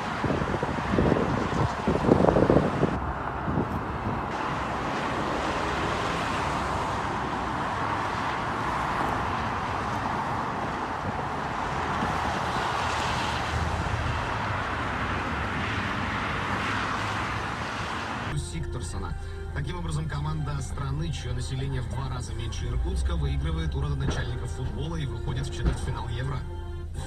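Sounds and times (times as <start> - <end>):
vehicle road noise: 0.0 - 27.0.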